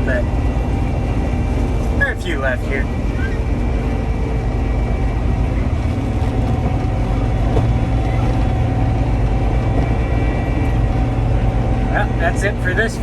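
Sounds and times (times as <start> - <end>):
combine harvester drone: 0.0 - 13.0
faint steady whines: 0.0 - 13.0.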